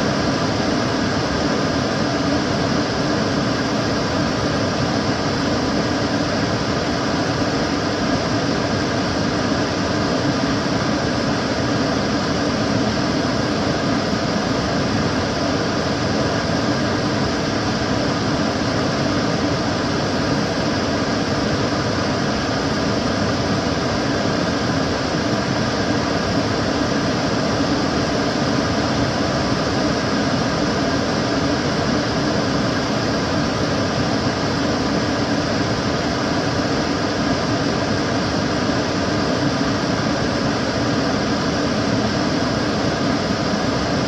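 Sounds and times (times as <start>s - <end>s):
extractor fan airy rush: 0.0s - 44.0s.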